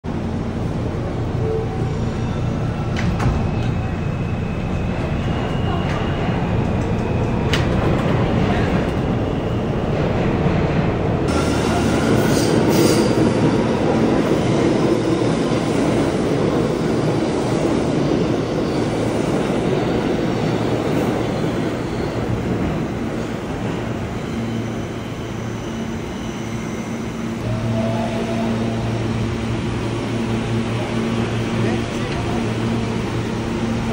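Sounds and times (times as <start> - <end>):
subway train rumble and hiss: 0.0 - 33.9.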